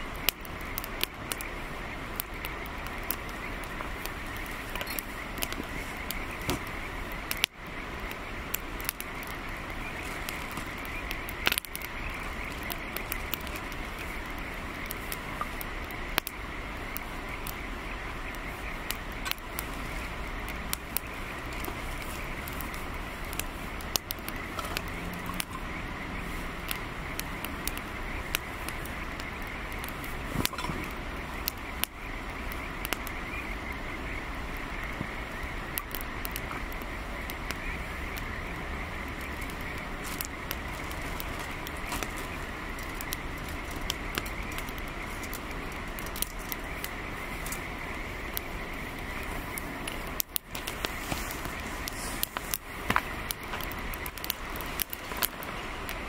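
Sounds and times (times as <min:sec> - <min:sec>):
burning wood pops and snaps: 0:00.0 - 0:56.0
campfire crackling: 0:00.0 - 0:56.0
steady background hiss: 0:00.0 - 0:56.0.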